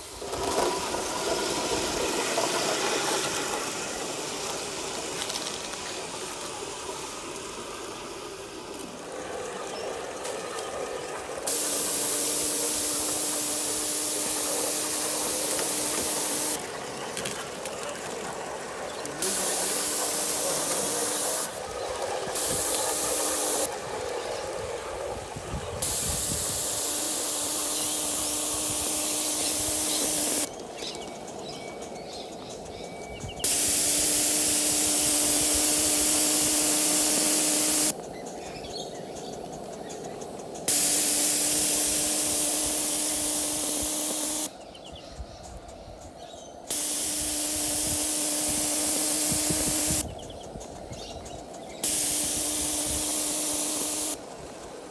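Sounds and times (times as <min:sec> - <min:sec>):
loud steam hissing bursts: 0:00.0 - 0:16.7, 0:18.4 - 0:30.5, 0:33.4 - 0:38.0, 0:40.6 - 0:44.5, 0:46.7 - 0:50.4, 0:51.0 - 0:54.9
steady hum: 0:00.0 - 0:16.9, 0:18.4 - 0:30.5, 0:33.3 - 0:44.6, 0:46.0 - 0:54.9.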